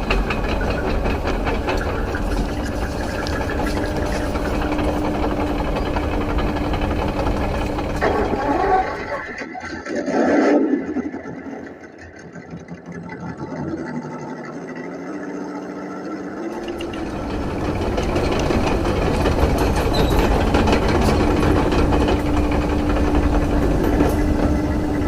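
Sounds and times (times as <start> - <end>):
heavy vehicle engine running: 0.0 - 9.7, 10.6 - 25.0.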